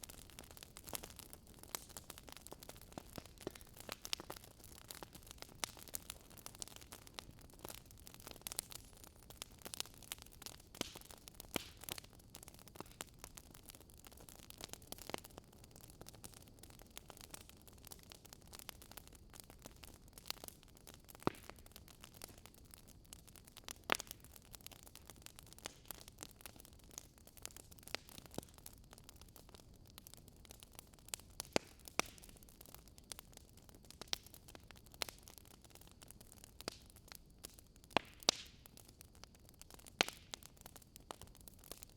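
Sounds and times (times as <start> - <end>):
burning wood popping: 0.0 - 41.9
fire crackling: 0.0 - 41.9.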